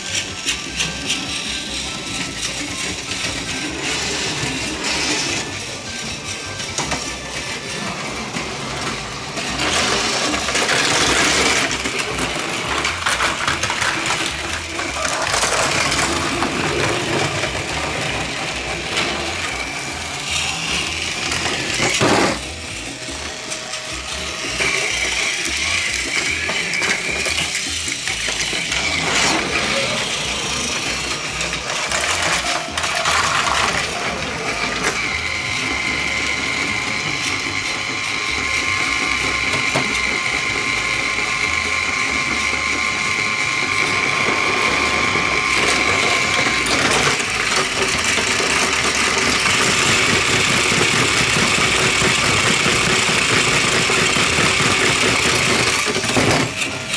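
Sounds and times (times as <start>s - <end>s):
small electric motors whirring: 0.0s - 56.9s
toy train wheels clicking on track: 0.0s - 56.9s.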